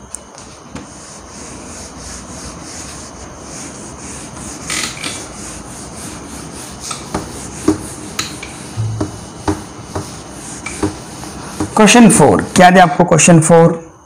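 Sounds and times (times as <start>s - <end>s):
eraser wiping a whiteboard: 0.4s - 13.0s.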